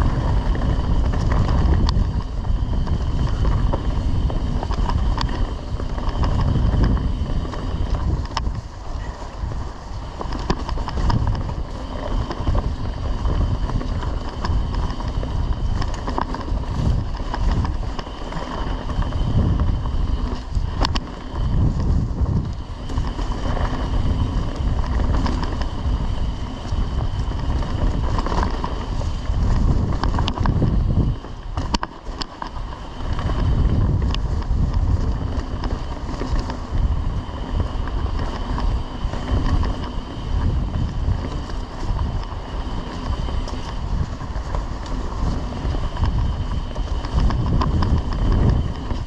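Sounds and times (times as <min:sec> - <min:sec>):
bike tyres rolling on dirt: 0:00.0 - 0:49.0
sharp clicks from bike: 0:00.0 - 0:49.0
wind buffeting microphone: 0:00.0 - 0:49.0.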